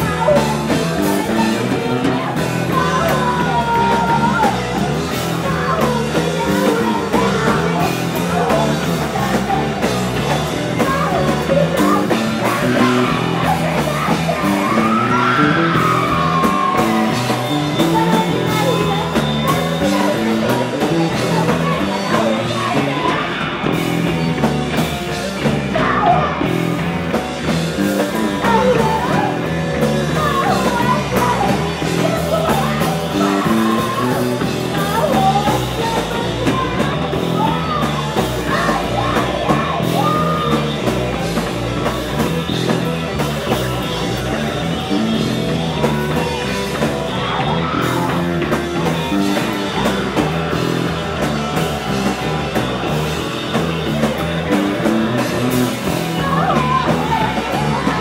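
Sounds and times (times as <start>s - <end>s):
hard rock band playing: 0.0s - 58.0s
person singing and shouting: 0.0s - 58.0s.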